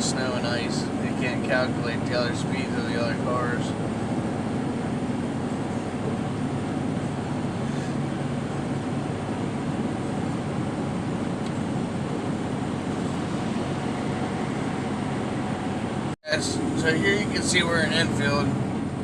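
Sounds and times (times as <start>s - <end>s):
diesel engine drone: 0.0s - 19.0s
tyre and road noise: 0.0s - 19.0s.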